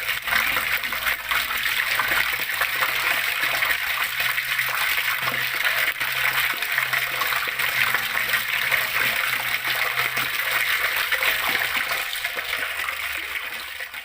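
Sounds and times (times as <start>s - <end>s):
flowing water splashing: 0.0s - 14.0s.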